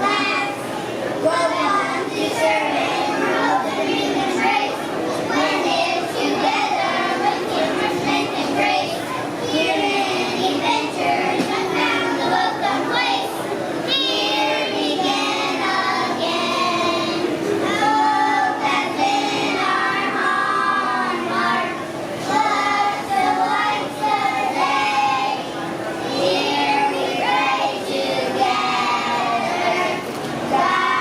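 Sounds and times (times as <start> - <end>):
children singing together: 0.0 - 31.0.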